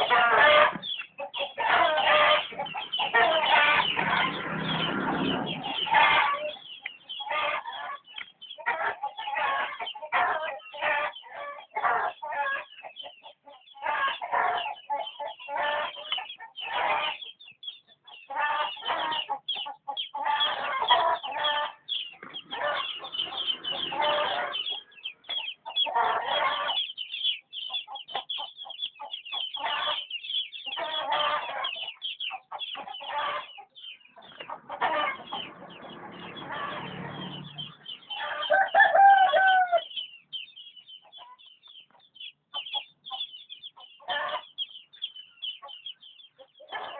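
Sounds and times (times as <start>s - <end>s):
chickens clucking and squawking: 0.0s - 46.9s.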